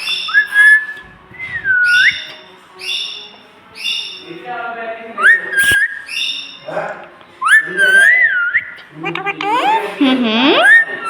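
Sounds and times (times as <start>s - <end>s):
parrot whistling and calling: 0.0s - 4.3s, 5.2s - 6.7s, 7.4s - 11.0s.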